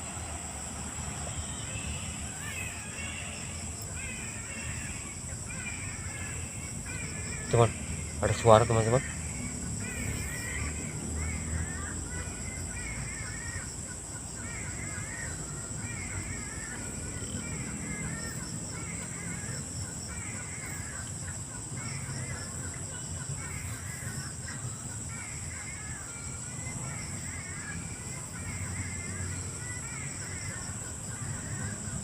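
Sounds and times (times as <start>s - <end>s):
bird chattering calls: 1.6s - 32.0s.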